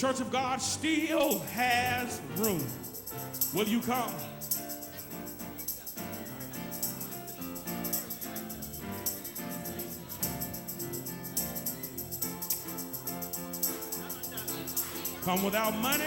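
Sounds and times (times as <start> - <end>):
slow gospel music chords: 0.0 - 16.0
jingling percussion: 1.0 - 16.0.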